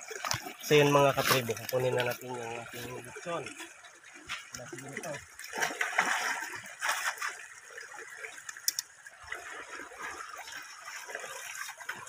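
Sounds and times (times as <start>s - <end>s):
river water splashing and trickling: 0.0s - 12.0s
wading steps splashing: 0.0s - 12.0s.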